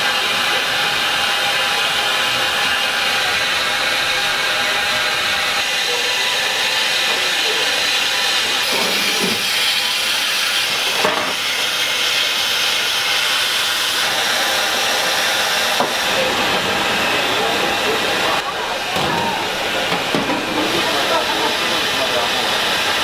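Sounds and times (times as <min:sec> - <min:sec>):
steam hissing: 0:00.0 - 0:23.0.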